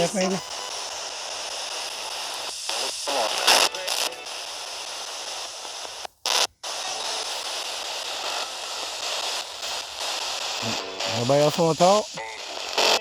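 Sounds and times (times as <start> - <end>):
radio static hissing: 0.0 - 13.0.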